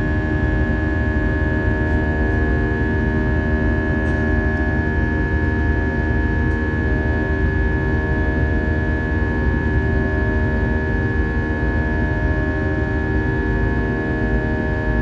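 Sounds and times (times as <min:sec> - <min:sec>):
jet engine rush in cabin: 0:00.0 - 0:15.0.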